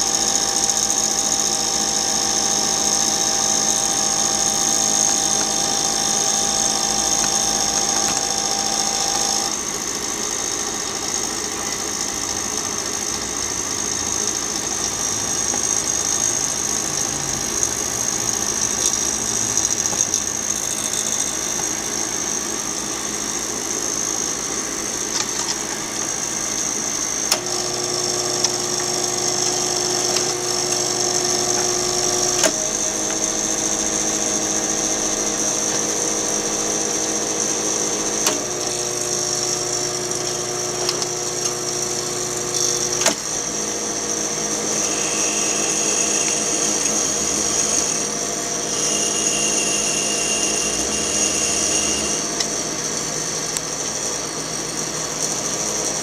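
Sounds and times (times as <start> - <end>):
projector motor and fan hum: 0.0 - 56.0.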